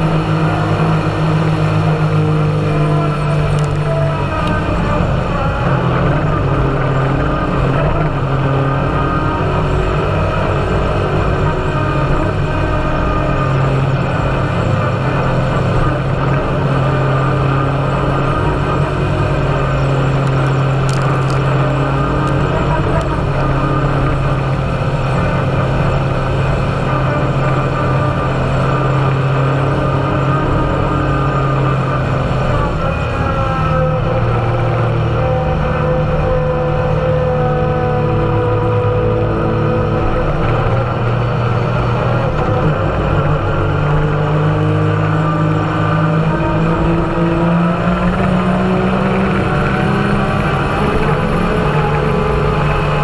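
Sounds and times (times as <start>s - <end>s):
utility vehicle engine droning: 0.0s - 53.0s
wind: 0.0s - 53.0s.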